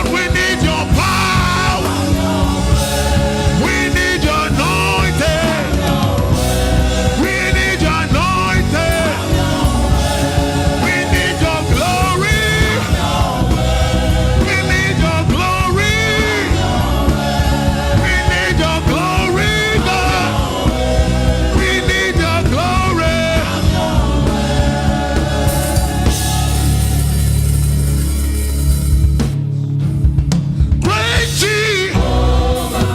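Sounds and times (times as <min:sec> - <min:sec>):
gospel choir singing: 0:00.0 - 0:27.9, 0:30.8 - 0:32.9
bass guitar: 0:00.0 - 0:32.9
drum kit beat: 0:00.0 - 0:32.9.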